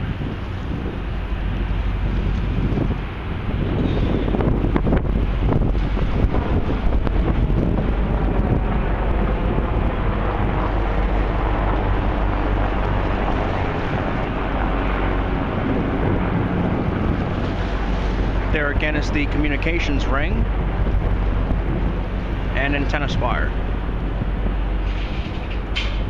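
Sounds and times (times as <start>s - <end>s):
wind blowing across microphone: 0.0s - 26.0s.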